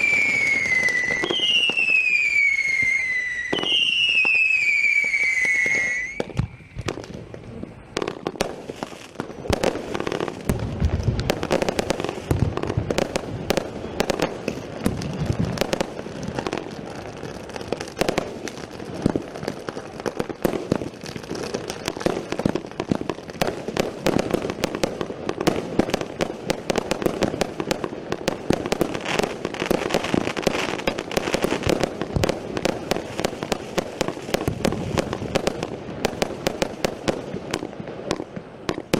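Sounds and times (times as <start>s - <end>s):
firework cracks and crackling pops: 0.0s - 38.9s.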